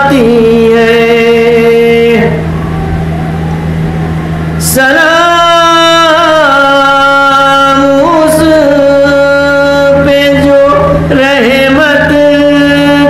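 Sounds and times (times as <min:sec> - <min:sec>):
man chanting into a microphone: 0:00.0 - 0:02.6, 0:04.6 - 0:13.0.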